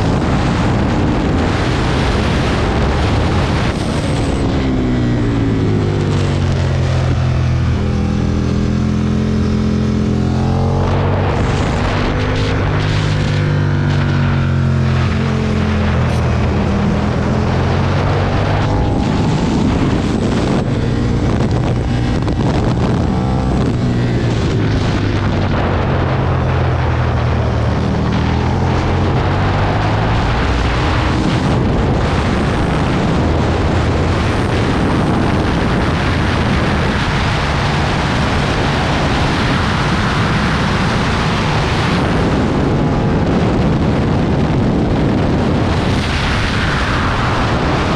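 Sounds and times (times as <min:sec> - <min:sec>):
motorcycle engine revving: 0:00.0 - 0:47.9
wind noise on microphone: 0:00.0 - 0:47.9.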